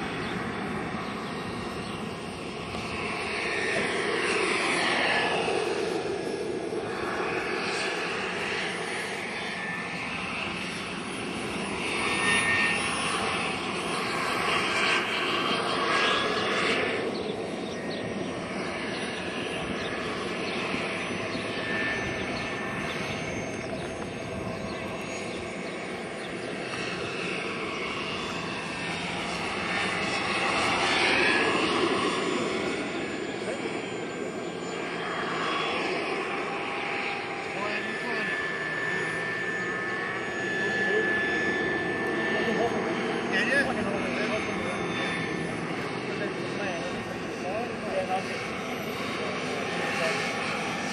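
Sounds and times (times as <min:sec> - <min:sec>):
gas turbine high whine: 0:00.0 - 0:50.9
helicopter rotor noise: 0:00.0 - 0:50.9.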